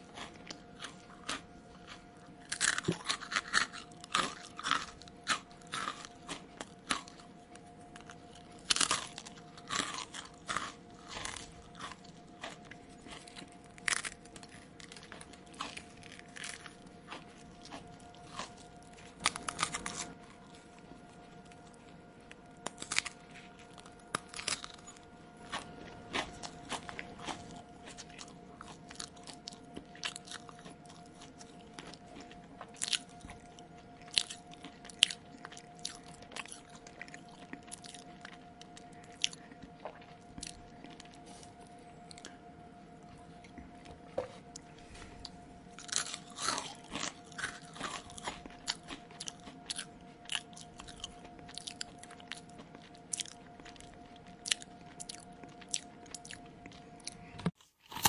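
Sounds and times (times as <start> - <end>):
crunchy chewing: 0.0 - 58.0
faint steady hum: 0.0 - 58.0.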